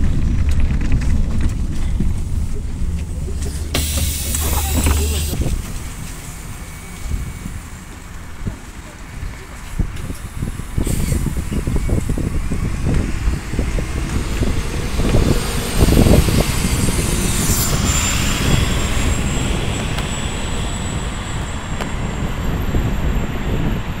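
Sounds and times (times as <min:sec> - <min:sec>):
bus engine and tyre rumble: 0:00.0 - 0:24.0.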